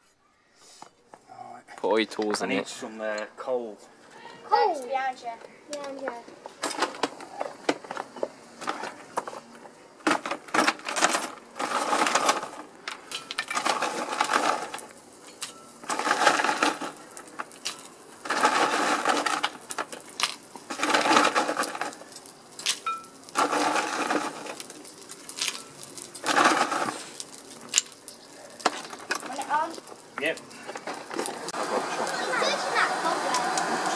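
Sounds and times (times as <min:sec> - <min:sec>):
coal lumps clattering: 0:05.7 - 0:33.9.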